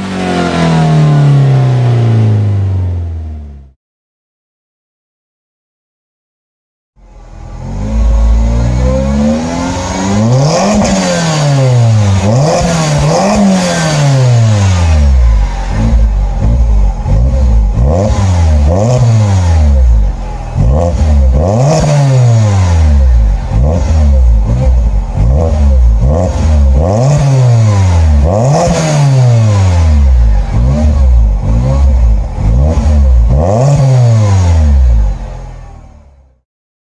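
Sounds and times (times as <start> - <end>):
car engine revving: 0.0 - 3.8, 7.0 - 36.4.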